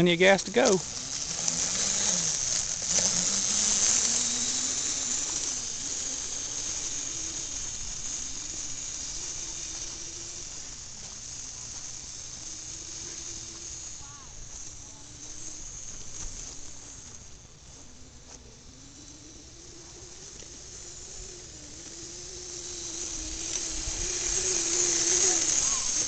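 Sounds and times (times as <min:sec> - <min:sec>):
electric dirt bike motor whining: 0:00.0 - 0:26.0
steady hiss: 0:00.0 - 0:26.0.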